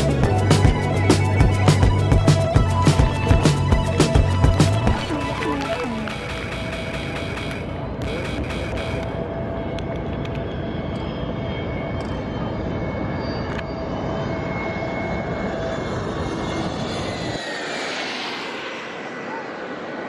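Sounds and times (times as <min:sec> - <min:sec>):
high engine whine: 0:00.0 - 0:20.0
jet airliner passing overhead: 0:00.0 - 0:20.0.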